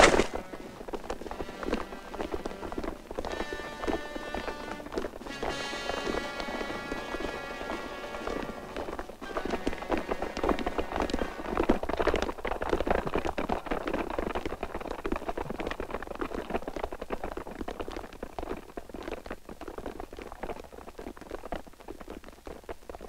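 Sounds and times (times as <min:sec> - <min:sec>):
many footsteps on pavement: 0:00.0 - 0:23.0.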